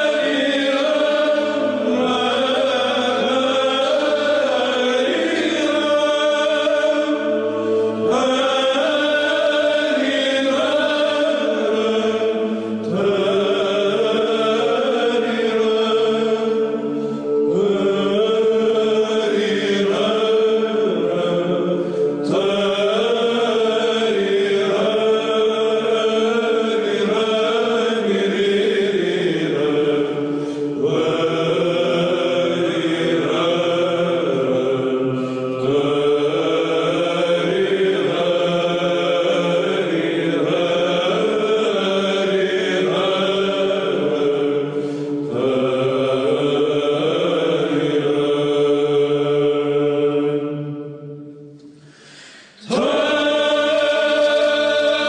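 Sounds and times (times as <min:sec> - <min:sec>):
voices chanting slow melody: 0:00.0 - 0:55.0.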